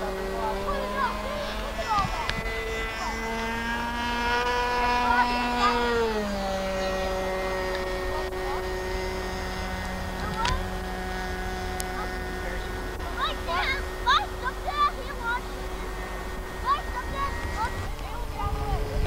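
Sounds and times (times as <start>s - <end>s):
engine drone: 0.0s - 19.0s
faint distant voices: 0.0s - 19.0s.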